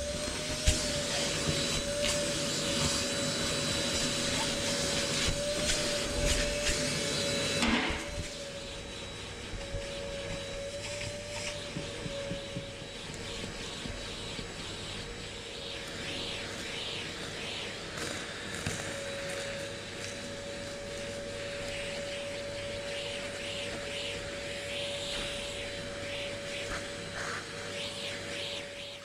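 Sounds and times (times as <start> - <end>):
vacuum cleaner hiss: 0.0 - 29.0
vacuum cleaner whine: 0.0 - 29.0.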